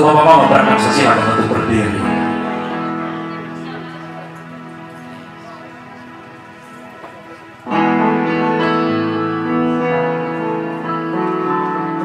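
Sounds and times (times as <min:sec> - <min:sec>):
instrumental music with held chords: 0:00.4 - 0:12.0.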